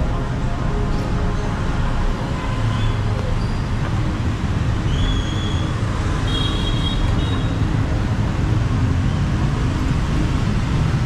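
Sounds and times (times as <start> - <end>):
motorbikes and cars passing: 0.0 - 11.0.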